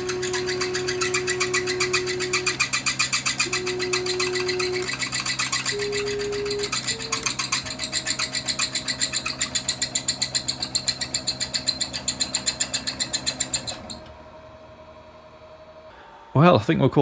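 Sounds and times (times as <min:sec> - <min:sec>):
fast even rattle of drilling: 0:00.0 - 0:14.0
feed motor whining: 0:00.0 - 0:15.8
drill press motor hum: 0:00.0 - 0:16.4.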